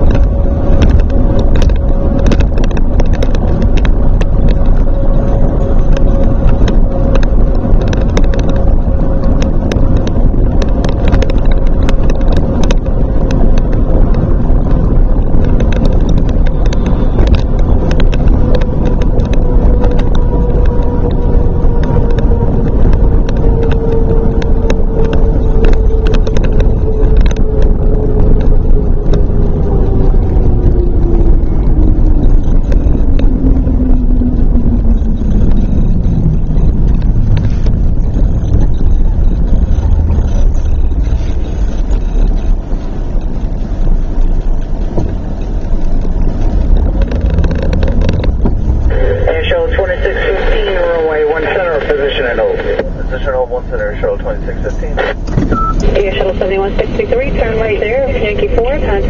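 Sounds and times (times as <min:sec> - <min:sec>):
falling whine: 0:00.0 - 0:59.0
vehicle engine and tyre noise: 0:00.0 - 0:59.0.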